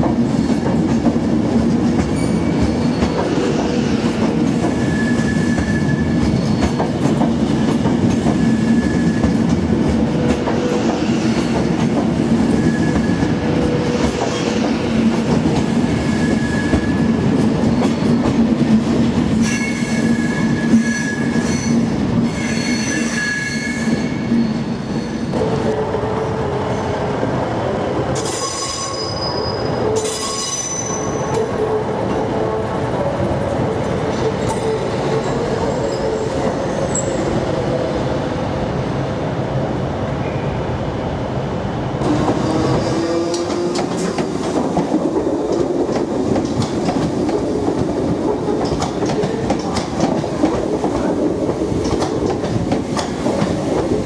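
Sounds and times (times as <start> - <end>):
diesel train: 0.0 - 54.0.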